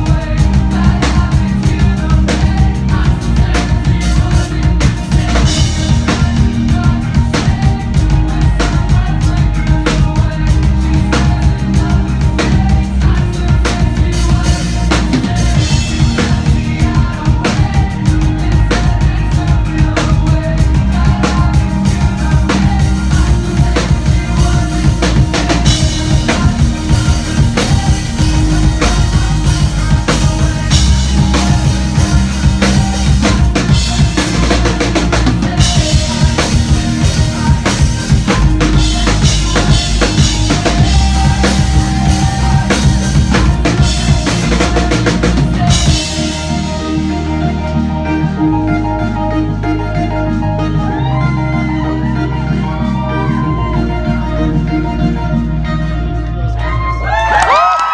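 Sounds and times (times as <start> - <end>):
live band playing: 0.0 - 57.9.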